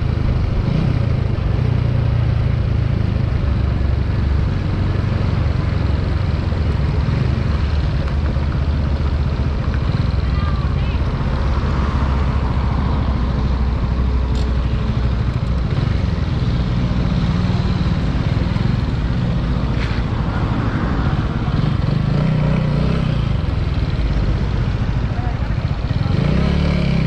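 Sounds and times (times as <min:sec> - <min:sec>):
motorcycle engine at low revs: 0:00.0 - 0:20.4, 0:21.0 - 0:27.0.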